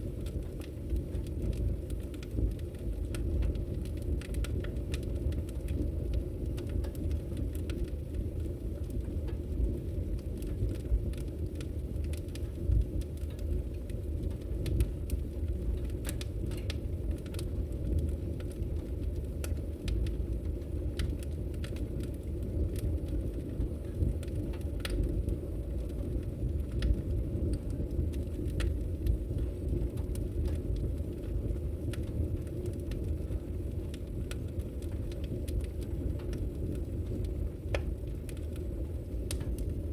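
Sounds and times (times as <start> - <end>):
logs crackling and popping in fire: 0.0 - 39.9
low fire rumble: 0.0 - 39.9.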